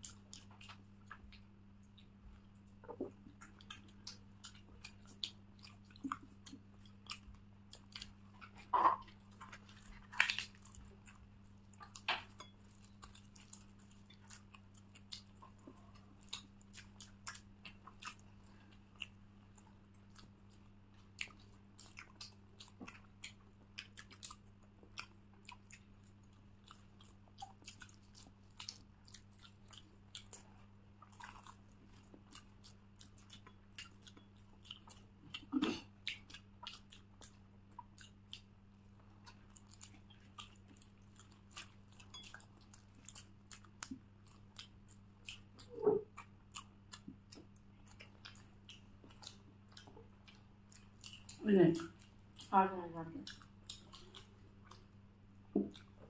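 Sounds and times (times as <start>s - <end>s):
chewing and mouth smacks: 0.0s - 52.6s, 53.2s - 56.0s
faint low hum: 0.0s - 56.0s.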